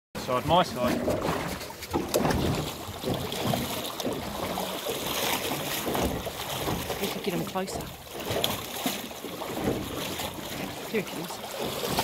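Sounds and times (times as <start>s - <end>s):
water lapping against boat hull: 0.2s - 12.0s.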